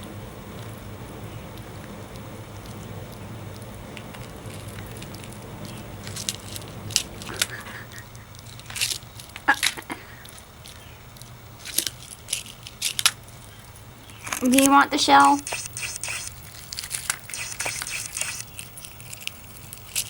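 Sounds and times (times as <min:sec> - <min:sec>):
lizard jaws crunching egg: 0:00.5 - 0:20.0.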